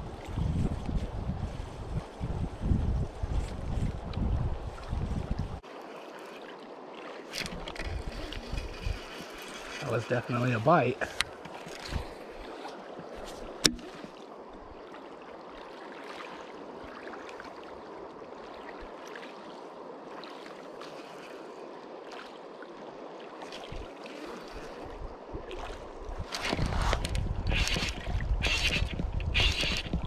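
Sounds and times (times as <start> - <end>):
river rippling over gravel: 0.0 - 30.0.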